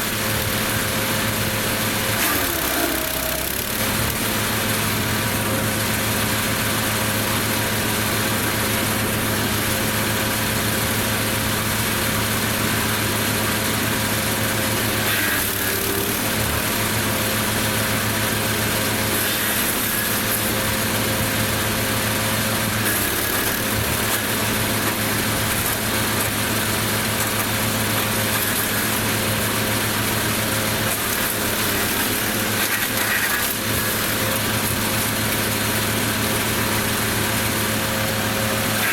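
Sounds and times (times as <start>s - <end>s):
wood chipper engine hum: 0.0s - 38.9s.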